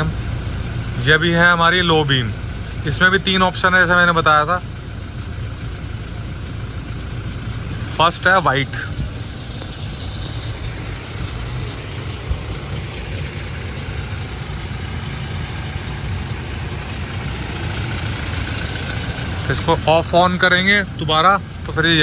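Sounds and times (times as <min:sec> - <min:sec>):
suv engine idling: 0:00.0 - 0:22.0.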